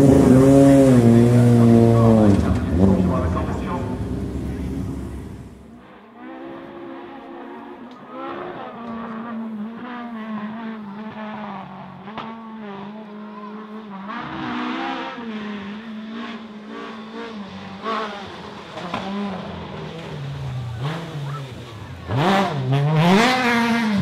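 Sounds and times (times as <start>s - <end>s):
rally car engine shifting gears: 0.0s - 5.8s, 6.4s - 24.0s.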